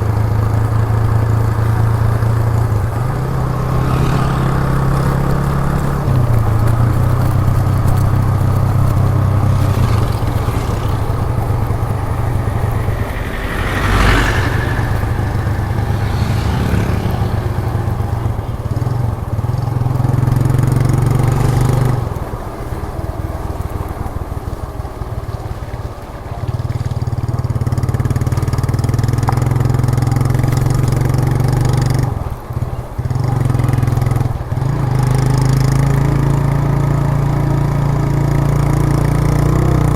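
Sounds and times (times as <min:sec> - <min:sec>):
motorcycle engine running: 0:00.0 - 0:39.9
passing traffic rush: 0:00.0 - 0:39.9.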